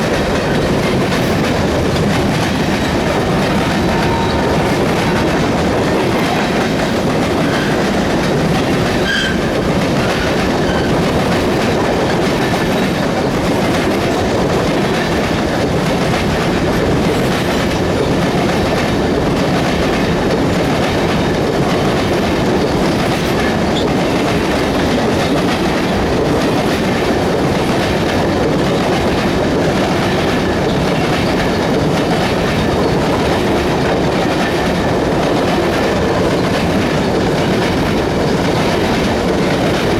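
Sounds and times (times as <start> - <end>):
train cars rolling past: 0.0 - 39.9
wheels clicking over rail joints: 0.0 - 39.9.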